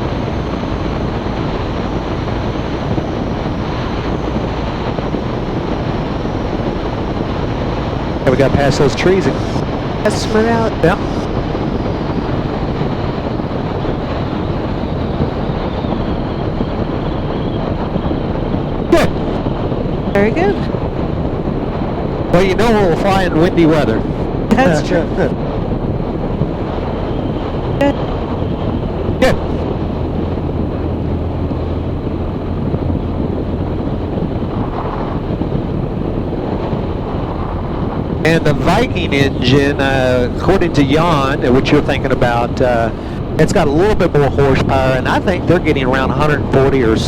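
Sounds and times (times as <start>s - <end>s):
light aircraft engine and propeller: 0.0s - 47.0s
rushing air: 0.0s - 47.0s
wind noise: 0.0s - 47.0s.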